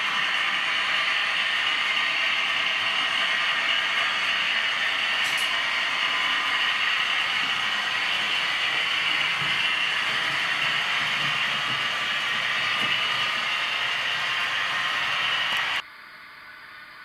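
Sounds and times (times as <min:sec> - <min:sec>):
model locomotive running: 0:00.0 - 0:15.8.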